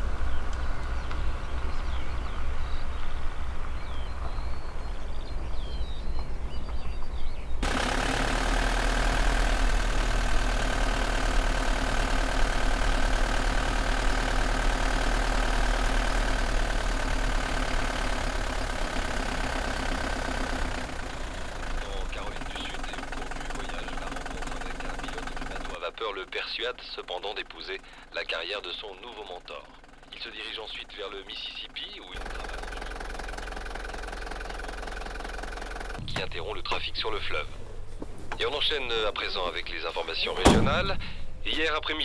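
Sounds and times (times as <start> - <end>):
birds chirping: 0.0 - 7.7, 9.9 - 42.0
engine drone inside vehicle cab: 0.0 - 42.0
van engine and tyres on dirt: 0.0 - 42.0.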